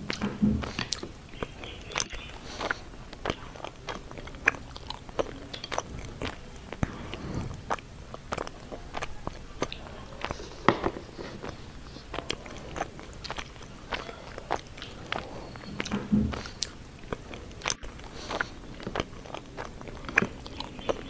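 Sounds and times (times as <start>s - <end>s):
chewing and mouth noises: 0.0s - 21.0s.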